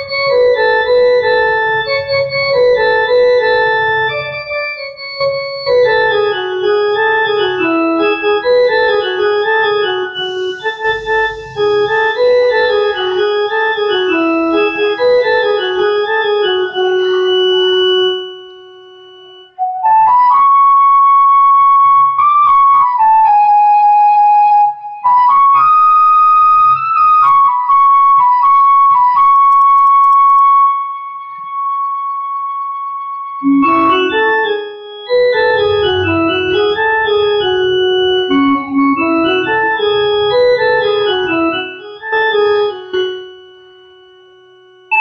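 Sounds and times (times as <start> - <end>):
electronic keyboard melody: 0.0 - 45.0.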